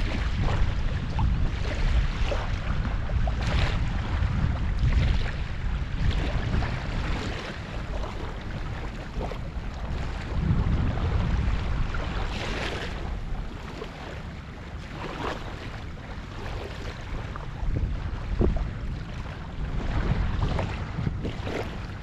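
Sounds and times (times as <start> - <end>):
water sounds: 0.0 - 22.0
wind buffeting microphone: 0.0 - 22.0.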